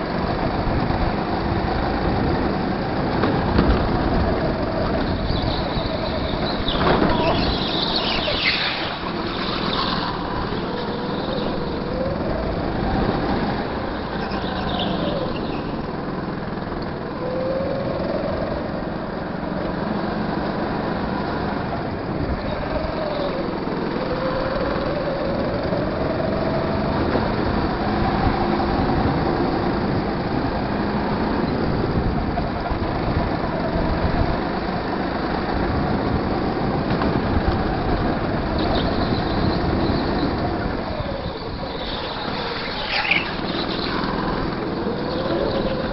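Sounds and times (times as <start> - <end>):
go-kart engine: 0.0 - 45.9
steady rush of noise: 0.0 - 45.9.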